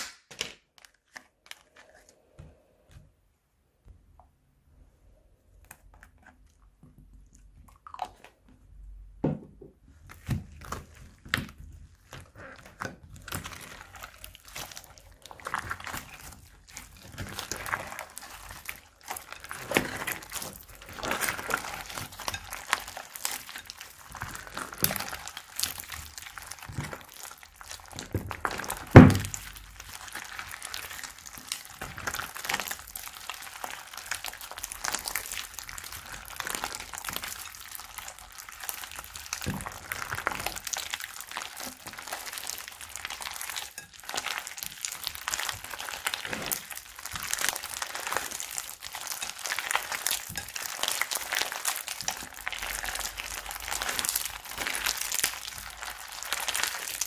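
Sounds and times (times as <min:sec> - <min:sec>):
slime crackling and popping: 0:10.0 - 0:57.0.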